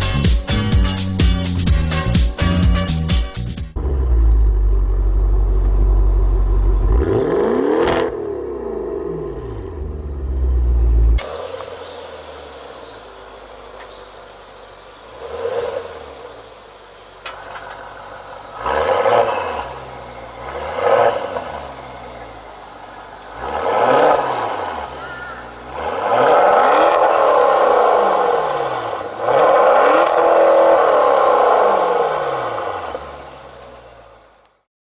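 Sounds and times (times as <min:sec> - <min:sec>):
car engine revving: 0:03.7 - 0:34.3.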